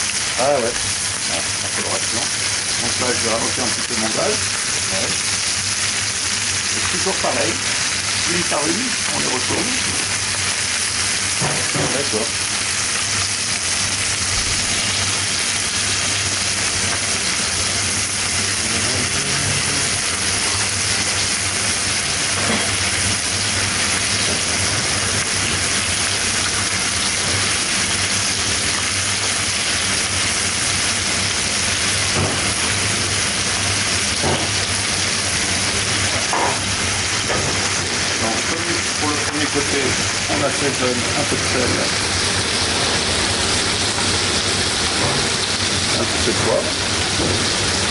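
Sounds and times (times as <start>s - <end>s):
frog legs sizzling in butter: 0.0s - 47.9s.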